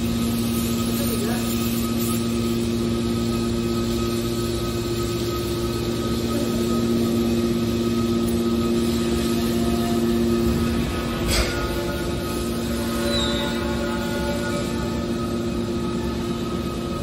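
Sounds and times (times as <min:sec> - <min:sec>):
hydraulic pump humming: 0:00.0 - 0:17.0.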